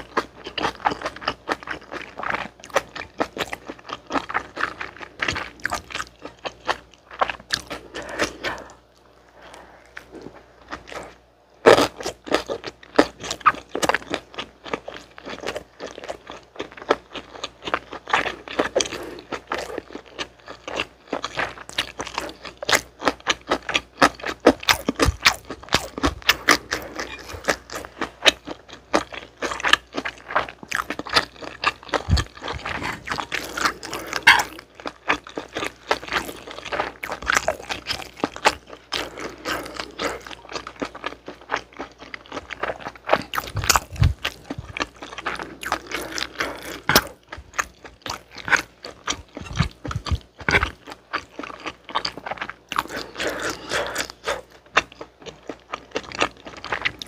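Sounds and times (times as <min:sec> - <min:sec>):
noodles being chewed: 0:00.0 - 0:57.0.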